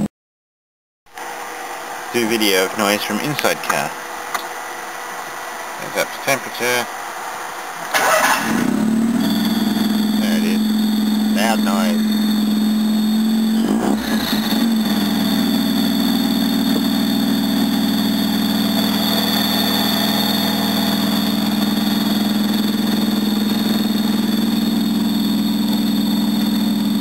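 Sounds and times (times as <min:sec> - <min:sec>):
low hum with high whine: 0:01.1 - 0:27.0
rotary engine running: 0:01.3 - 0:27.0.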